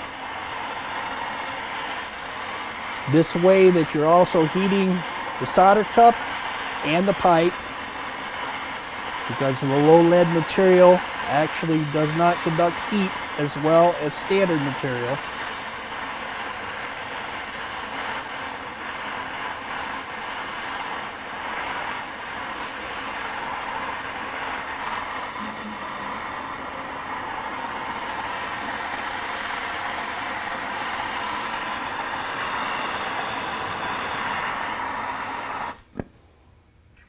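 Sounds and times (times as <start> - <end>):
soldering torch flame rushing: 0.0 - 36.3.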